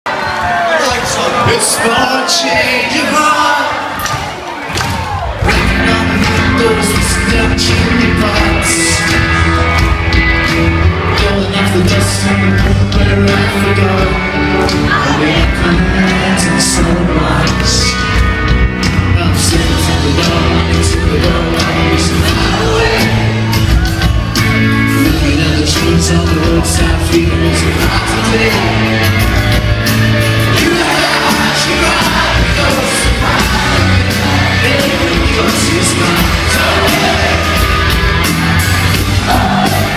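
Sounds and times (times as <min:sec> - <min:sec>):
live rock band with vocals: 0:00.1 - 0:39.9.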